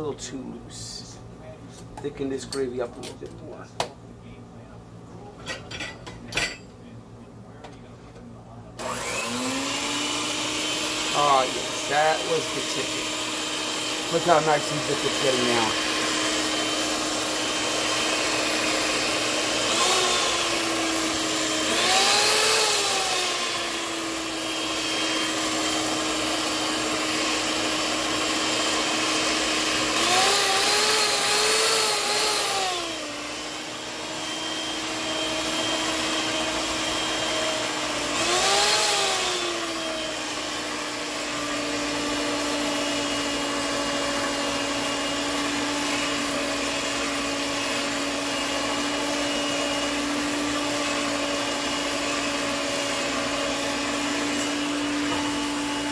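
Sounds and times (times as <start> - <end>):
electric mixer motor hum: 8.8 - 55.9.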